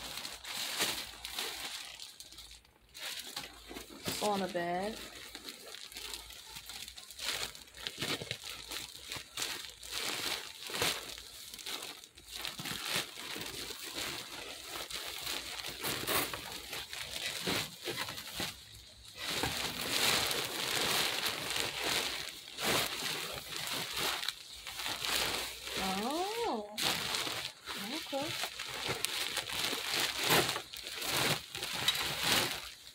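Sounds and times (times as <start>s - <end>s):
foil bag crinkling: 0.0s - 32.9s.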